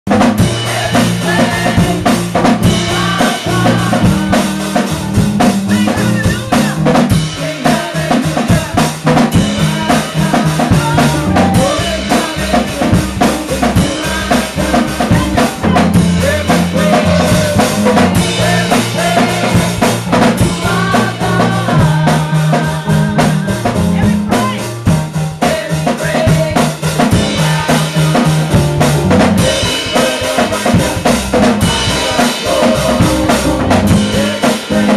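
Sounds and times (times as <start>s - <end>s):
drum kit beat: 0.1s - 34.9s
keyboard low chords: 0.1s - 34.9s
woman singing lead: 0.5s - 24.8s, 29.4s - 34.9s.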